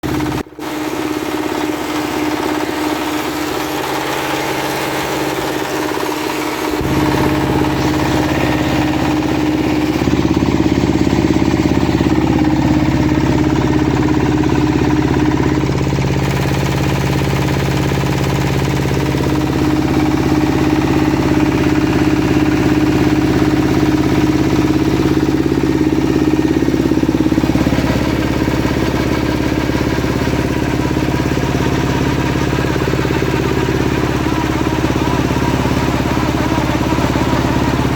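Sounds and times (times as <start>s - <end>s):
machinery humming: 0.0s - 37.9s.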